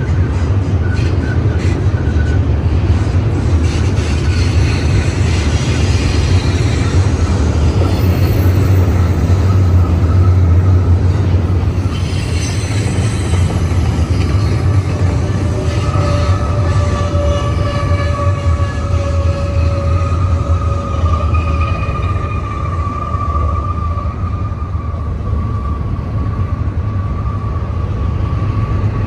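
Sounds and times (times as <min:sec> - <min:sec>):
freight train wheels rumbling: 0:00.0 - 0:29.0
high wheel squeals: 0:03.6 - 0:29.0.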